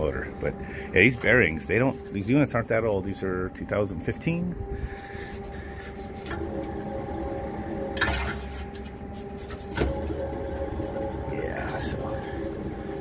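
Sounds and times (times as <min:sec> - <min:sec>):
hum of running equipment: 0:00.0 - 0:13.0.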